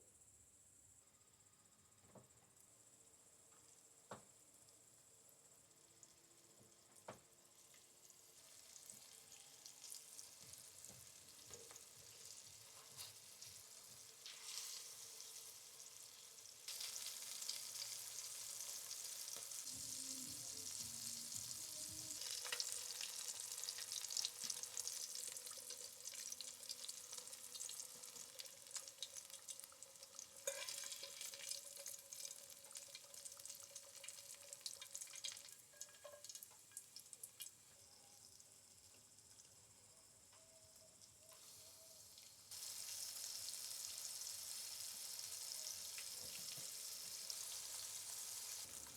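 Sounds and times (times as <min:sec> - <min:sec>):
fish frying in oil: 0:07.2 - 0:39.5, 0:41.3 - 0:48.9.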